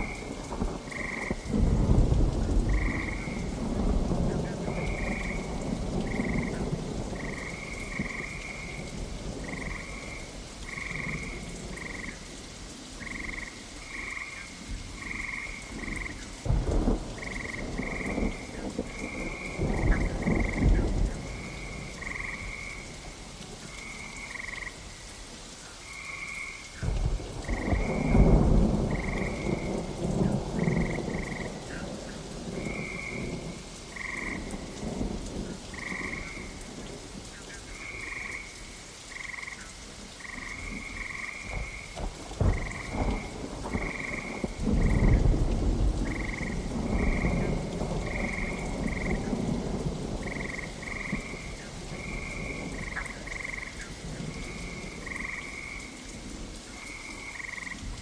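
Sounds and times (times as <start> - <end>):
rolls of thunder: 0.0 - 12.1, 13.1 - 23.0, 26.8 - 37.0, 40.2 - 55.9
steady rain: 0.0 - 58.0.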